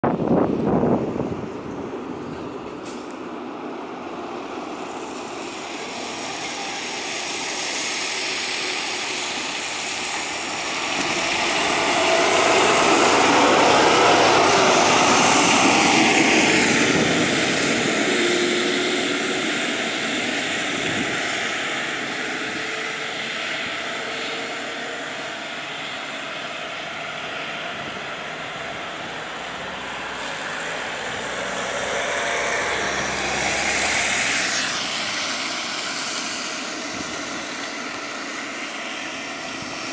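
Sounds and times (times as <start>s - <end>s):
bus diesel engine: 0.0s - 39.9s
tyre hiss on wet road: 2.6s - 39.9s.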